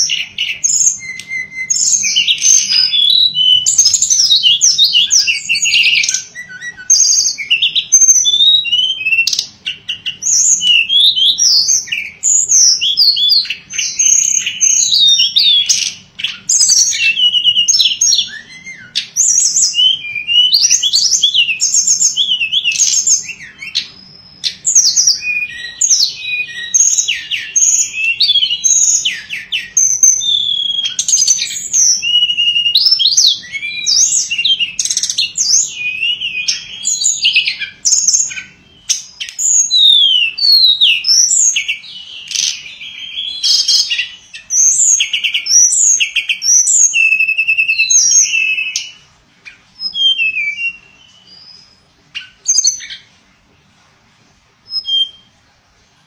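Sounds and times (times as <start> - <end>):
songbird singing whistles and trills: 0.0 - 53.2, 54.6 - 55.4.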